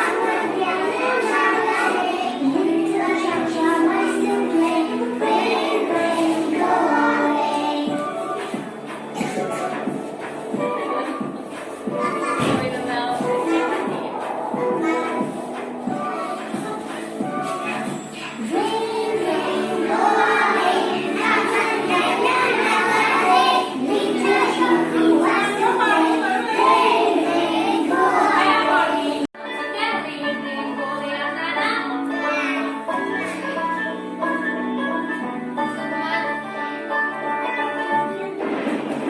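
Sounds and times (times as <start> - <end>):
children singing: 0.0 - 39.0
musical accompaniment: 0.0 - 39.0.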